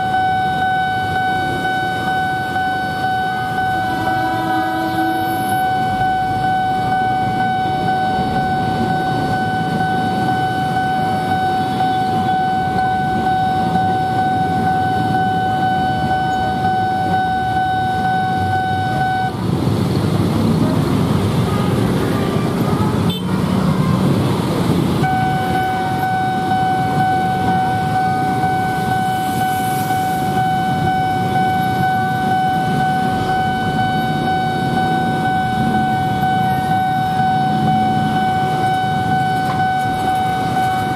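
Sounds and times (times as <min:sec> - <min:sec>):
level-crossing alarm tone: 0:00.0 - 0:19.4, 0:24.8 - 0:40.9.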